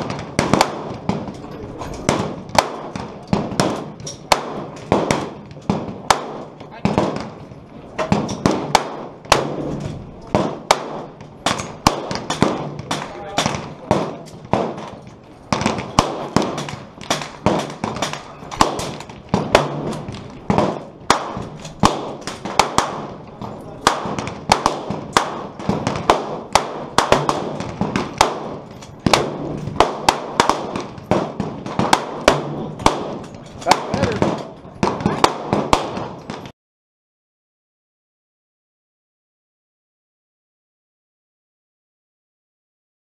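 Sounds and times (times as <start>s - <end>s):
gunshots: 0.0s - 36.5s.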